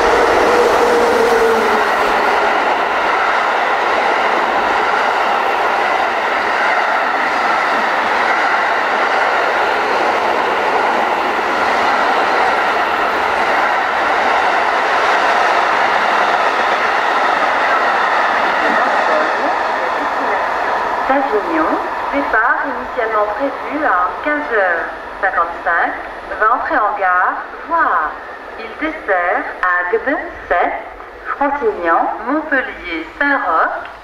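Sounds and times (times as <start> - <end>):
freight train wheels on rails: 0.0 - 34.0.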